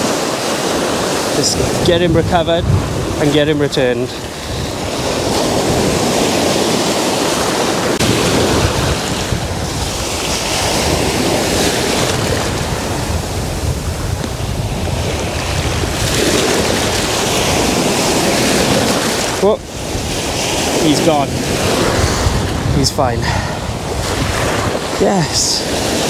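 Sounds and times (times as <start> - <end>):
surf washing around legs: 0.0 - 26.0.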